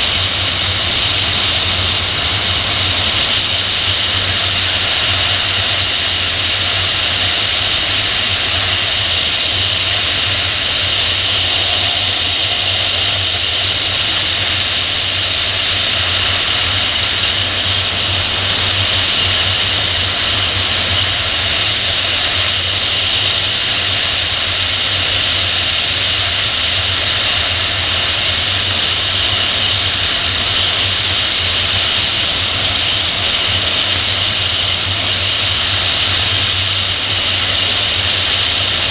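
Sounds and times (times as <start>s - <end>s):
steady low rumble: 0.0s - 38.9s.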